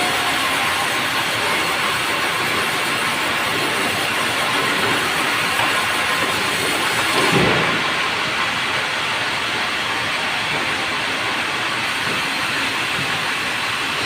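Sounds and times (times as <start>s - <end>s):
sawmill saw cutting log: 0.0s - 14.0s.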